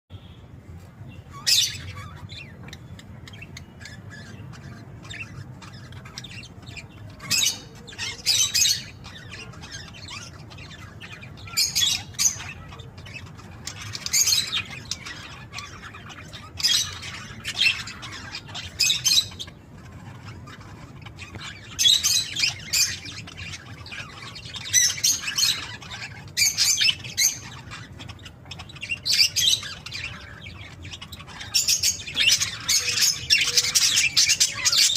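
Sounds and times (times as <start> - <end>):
budgerigars chirping and squawking: 0.2 - 34.9.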